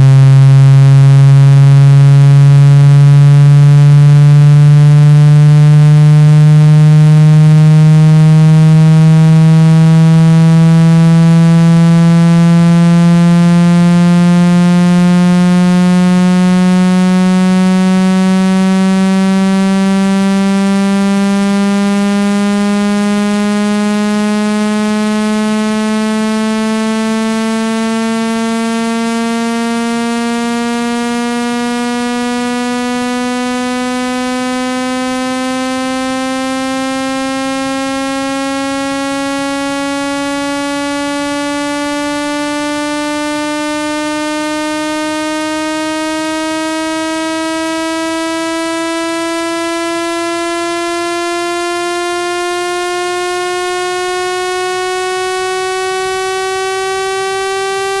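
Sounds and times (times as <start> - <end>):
low buzzy rising tone: 0.0 - 58.0.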